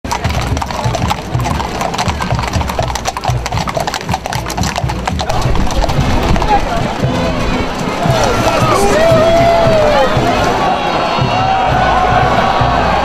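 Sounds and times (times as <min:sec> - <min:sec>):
horse hooves clip-clopping on asphalt: 0:00.0 - 0:10.7.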